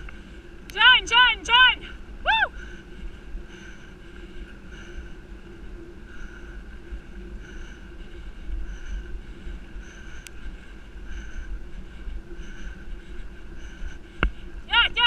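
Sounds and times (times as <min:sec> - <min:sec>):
faint pulsing tone: 0:00.0 - 0:14.7
wind rumbling on microphone: 0:00.0 - 0:15.0.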